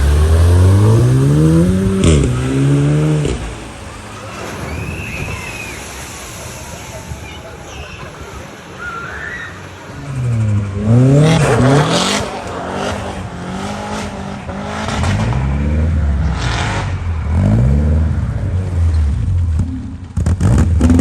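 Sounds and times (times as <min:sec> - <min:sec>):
car engine revving: 0:00.0 - 0:07.1, 0:09.7 - 0:21.0.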